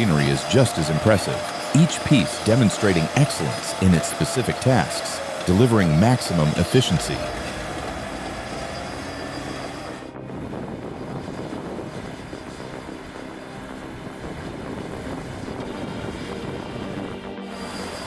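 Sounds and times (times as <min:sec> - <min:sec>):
large engine running: 0:00.0 - 0:18.0.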